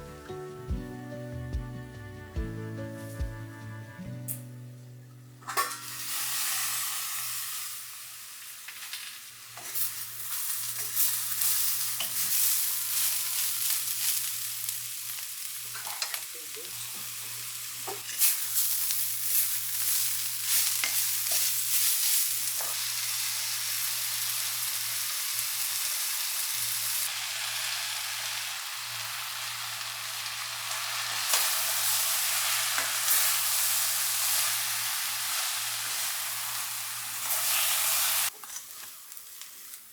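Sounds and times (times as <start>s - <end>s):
food sizzling in hot oil: 5.5s - 39.9s.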